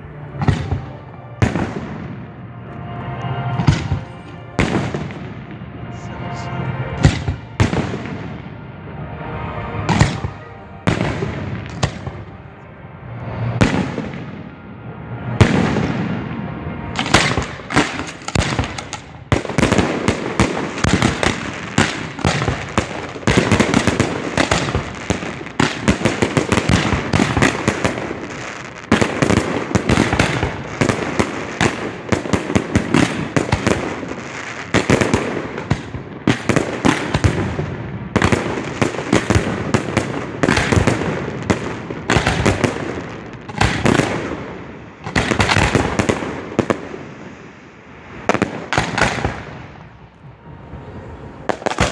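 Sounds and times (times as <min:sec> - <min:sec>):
fireworks booms and bangs: 0:00.3 - 0:02.3, 0:03.6 - 0:05.7, 0:07.0 - 0:08.6, 0:09.8 - 0:12.4, 0:13.6 - 0:14.5, 0:15.4 - 0:16.4, 0:17.0 - 0:50.0, 0:51.4 - 0:51.9.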